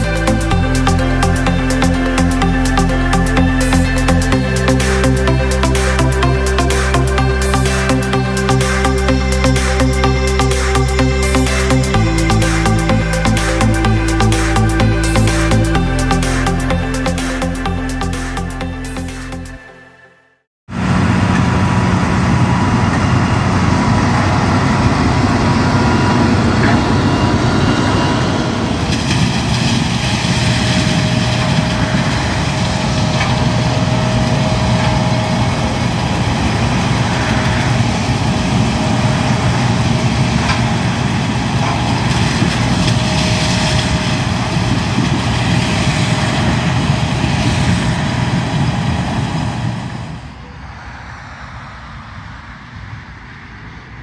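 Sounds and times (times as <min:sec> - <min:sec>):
combine harvester drone: 0:00.0 - 0:19.7, 0:20.7 - 0:54.0.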